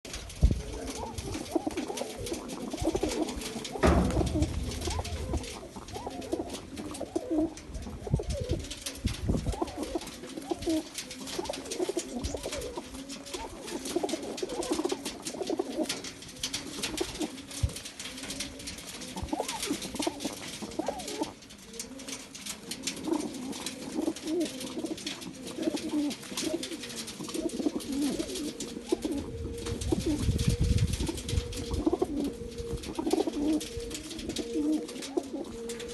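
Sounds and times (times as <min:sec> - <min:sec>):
pigeons cooing: 0:00.1 - 0:35.9.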